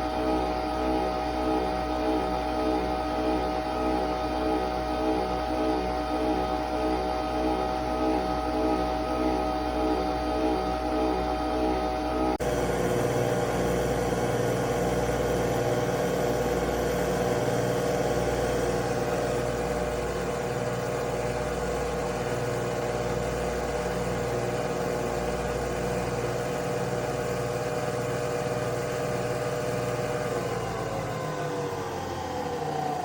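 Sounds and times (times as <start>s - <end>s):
coffee machine motor hum: 0.0s - 32.2s
slow regular pulsing: 0.1s - 33.0s.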